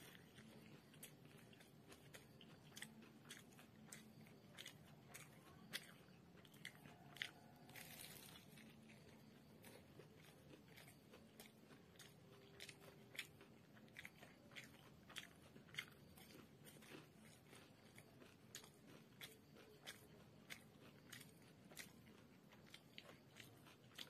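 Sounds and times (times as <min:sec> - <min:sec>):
crunchy chewing of fried food: 0:00.0 - 0:24.0.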